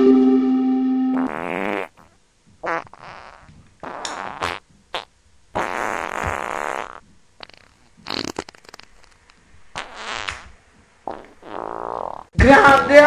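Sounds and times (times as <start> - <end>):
loud fart noises: 1.1 - 12.4.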